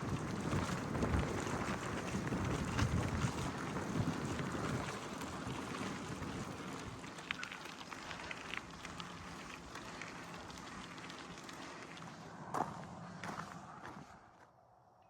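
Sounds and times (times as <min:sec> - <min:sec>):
bike tyres rolling on gravel: 0:00.0 - 0:14.4.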